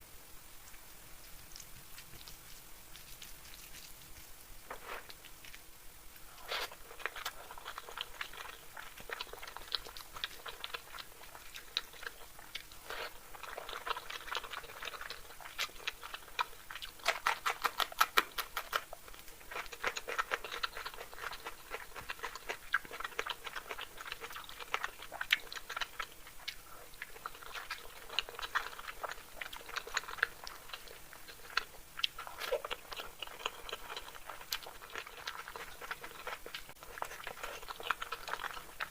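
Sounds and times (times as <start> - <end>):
wet chewing and mouth smacks: 0.7 - 38.9.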